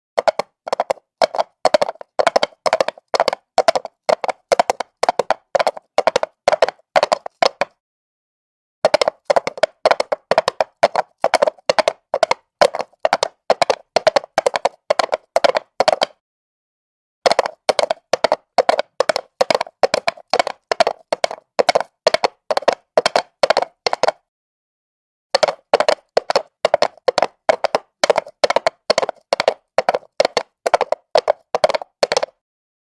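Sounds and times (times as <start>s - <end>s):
horse hooves trotting on asphalt: 0.2s - 7.8s, 8.9s - 16.2s, 17.3s - 24.2s, 25.4s - 32.4s.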